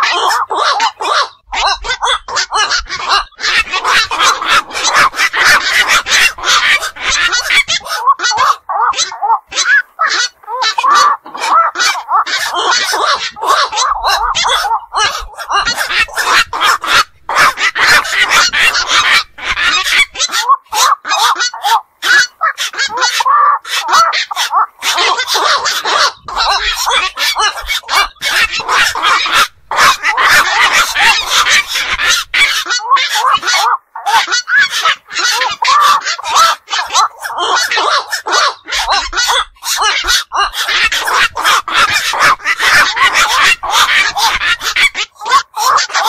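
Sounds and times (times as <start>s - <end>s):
herons calling: 0.0s - 46.0s.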